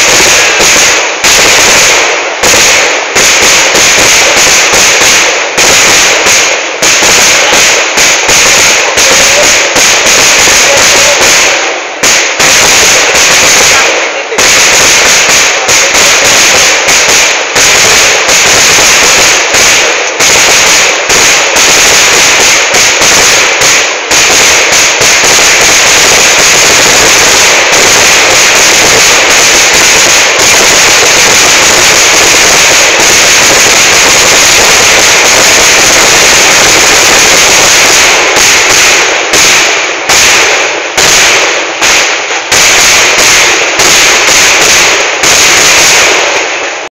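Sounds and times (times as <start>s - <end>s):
firecrackers bursting: 0.0s - 46.9s.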